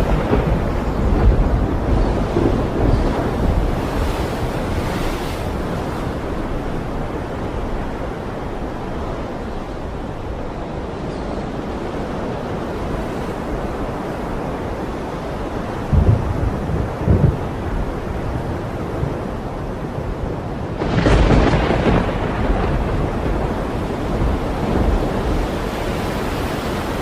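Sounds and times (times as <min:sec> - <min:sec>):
waves and surf: 0:00.0 - 0:27.0
wind: 0:00.0 - 0:27.0.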